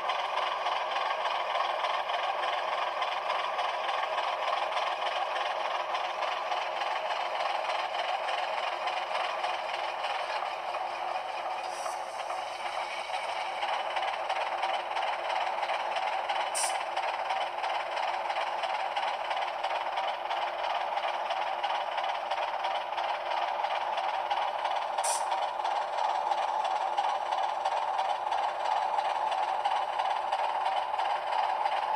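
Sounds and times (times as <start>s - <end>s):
model diesel engine sound: 0.0s - 31.9s
wheels clattering on track: 0.0s - 31.9s.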